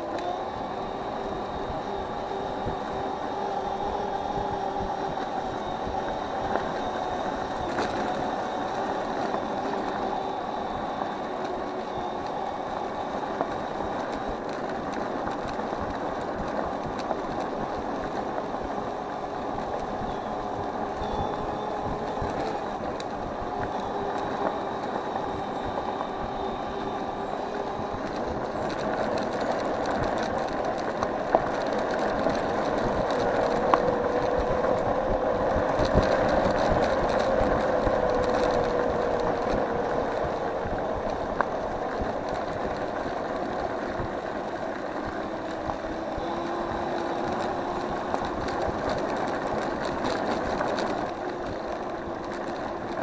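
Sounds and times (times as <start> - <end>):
electric motor whine: 0.0 - 53.0
tyre and road noise: 0.0 - 53.0.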